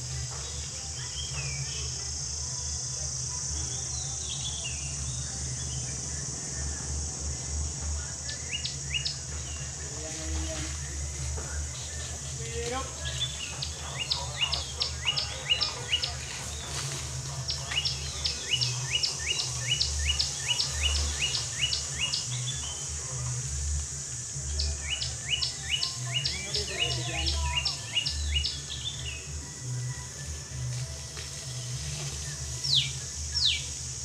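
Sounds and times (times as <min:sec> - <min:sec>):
steady high hiss: 0:00.0 - 0:34.0.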